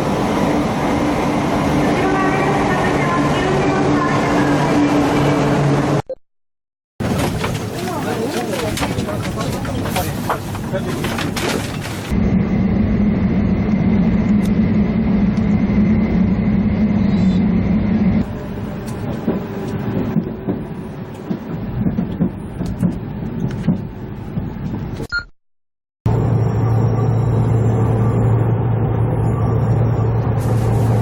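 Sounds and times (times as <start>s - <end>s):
train running on board drone: 0.0s - 6.0s, 7.0s - 25.0s, 26.1s - 31.0s.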